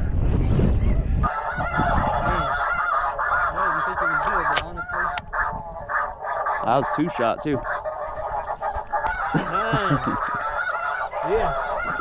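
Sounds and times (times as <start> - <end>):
low wind rumble: 0.0 - 12.0
geese honking: 1.2 - 12.0.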